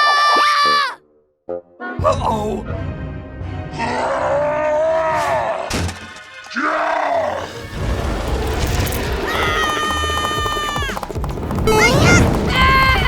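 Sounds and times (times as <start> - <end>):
background music: 0.5 - 13.0.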